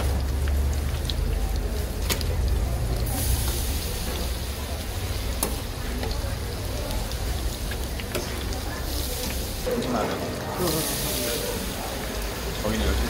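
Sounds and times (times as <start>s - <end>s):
squid deep-frying in oil: 0.0s - 13.0s.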